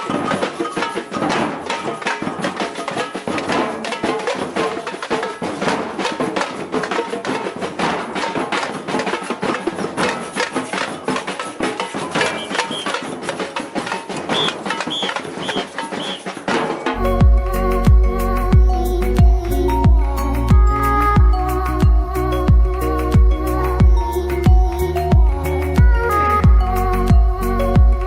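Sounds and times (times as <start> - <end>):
samba drums: 0.0 - 28.0
sharp hand percussion: 0.0 - 28.0.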